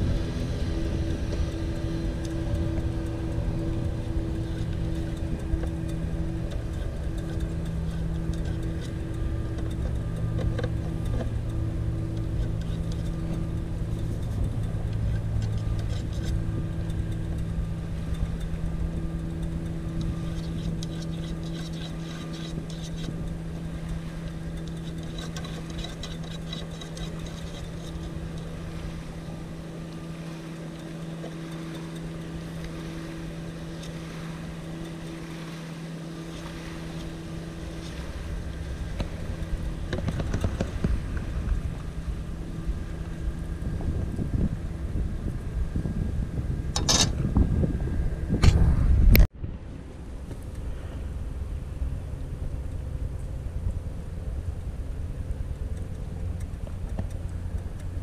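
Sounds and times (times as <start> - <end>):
engine running: 0.0 - 58.0
low hum: 0.0 - 58.0.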